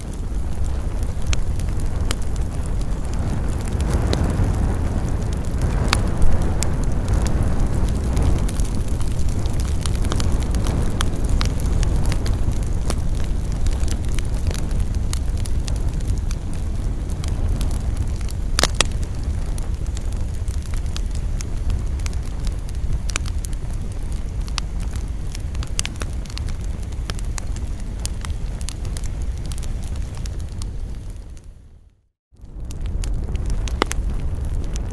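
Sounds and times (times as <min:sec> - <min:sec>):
campfire crackling: 0:00.0 - 0:34.9.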